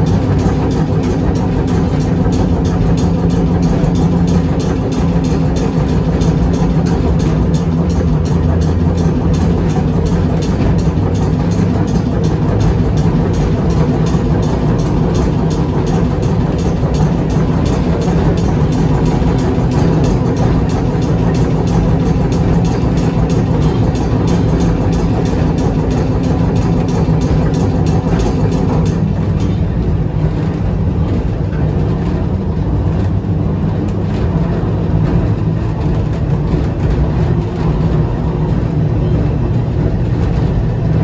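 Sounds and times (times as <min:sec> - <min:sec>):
tram wheels and motors rumbling: 0:00.0 - 0:41.0.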